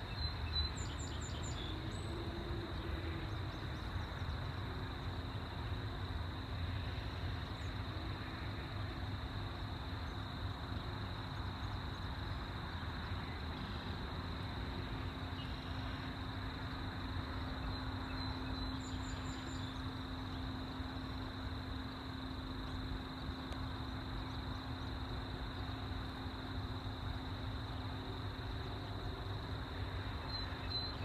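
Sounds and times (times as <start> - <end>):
high insect drone: 0.0 - 31.0
steady low hum: 0.0 - 31.0.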